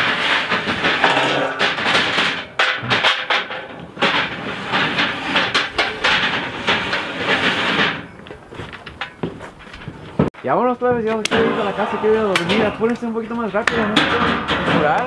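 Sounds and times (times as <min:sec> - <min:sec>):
metal truss clattering and rattling: 0:00.0 - 0:15.0.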